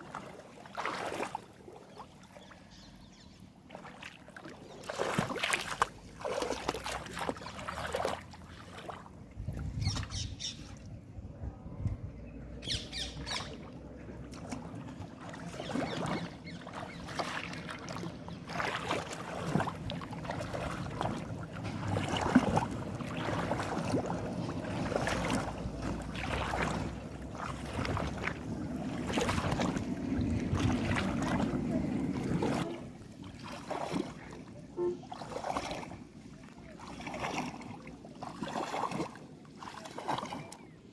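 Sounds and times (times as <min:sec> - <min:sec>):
shallow water splashing: 0:00.0 - 0:11.2, 0:12.7 - 0:40.9.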